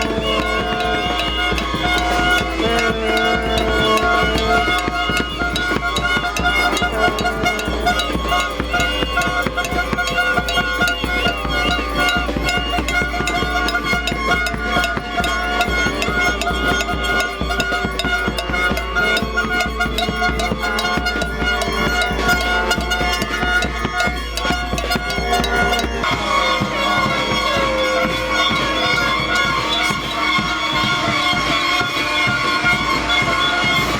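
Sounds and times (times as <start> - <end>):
air horns blowing chords: 0.0 - 33.9.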